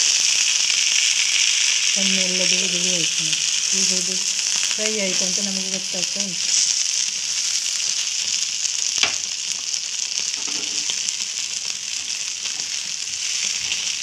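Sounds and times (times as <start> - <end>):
fish sizzling in oil: 0.0 - 14.0.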